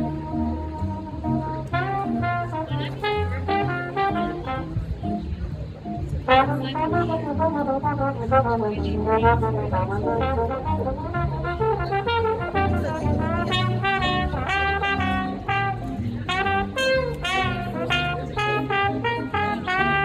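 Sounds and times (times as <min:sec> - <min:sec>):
trombone melody: 0:00.0 - 0:05.5, 0:06.2 - 0:20.0
plucked upright bass: 0:00.0 - 0:20.0.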